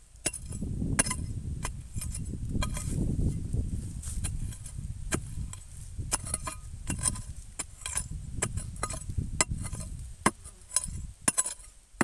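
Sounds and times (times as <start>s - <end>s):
digging tool chopping into soil: 0.2s - 3.0s, 4.0s - 12.0s.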